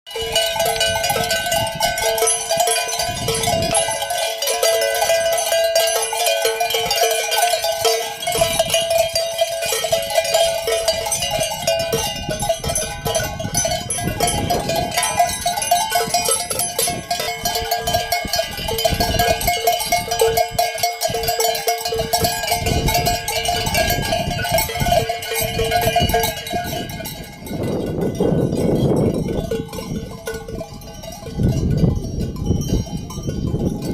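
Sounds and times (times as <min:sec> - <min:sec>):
livestock bells clanging: 0:00.1 - 0:33.9.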